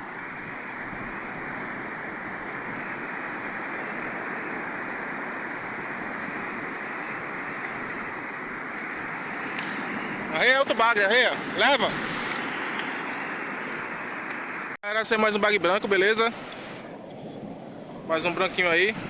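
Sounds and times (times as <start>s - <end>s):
breaking surf: 0.0s - 19.0s
strong wind: 0.0s - 19.0s.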